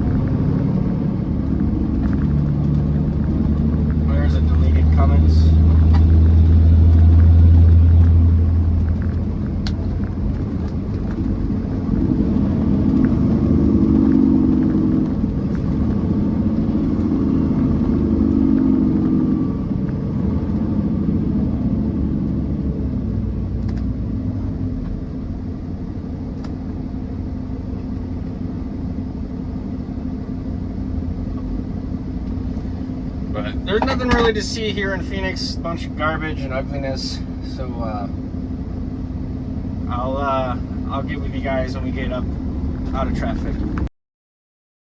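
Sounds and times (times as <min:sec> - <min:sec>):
deep hum: 0:00.0 - 0:43.9
road rumble: 0:00.0 - 0:43.9
truck engine drone: 0:00.0 - 0:43.9.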